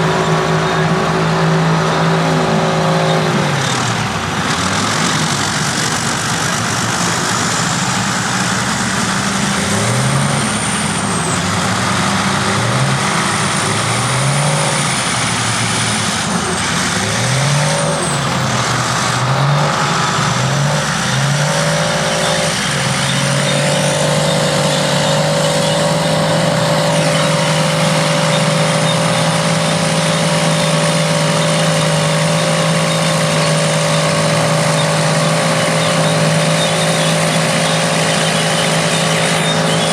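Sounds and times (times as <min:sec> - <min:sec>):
bulldozer engines revving: 0:00.0 - 0:39.9.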